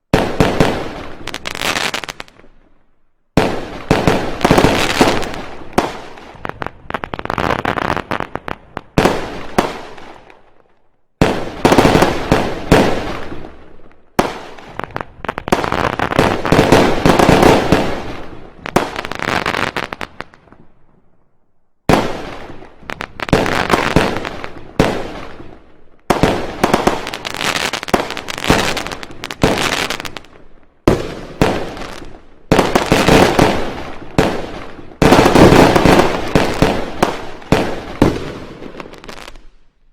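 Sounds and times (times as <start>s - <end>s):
fireworks bangs and crackles: 0.0s - 21.2s, 21.8s - 39.9s.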